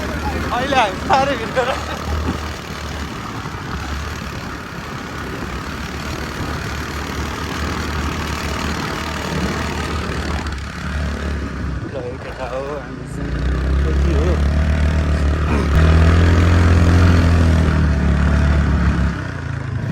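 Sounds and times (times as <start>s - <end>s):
motor scooter running: 0.0s - 19.9s.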